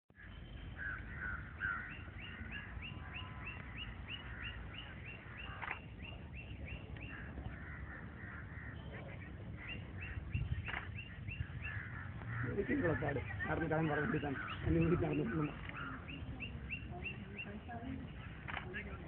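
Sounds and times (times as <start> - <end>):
birds chirping: 0.1 - 19.0
bird calling in high notes: 0.2 - 17.6.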